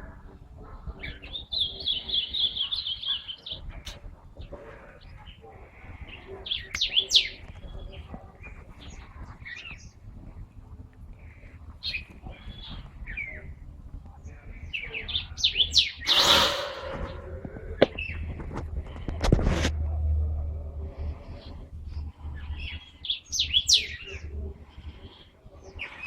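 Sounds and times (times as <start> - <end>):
songbirds chirping: 0.0 - 19.2, 20.4 - 26.0.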